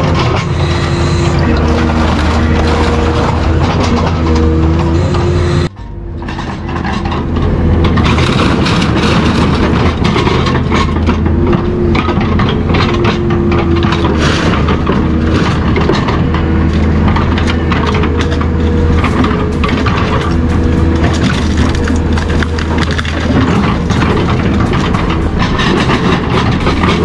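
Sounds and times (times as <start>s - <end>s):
machine engine drone: 0.0s - 27.0s
metal cracking and crunching: 1.4s - 5.0s, 5.8s - 27.0s.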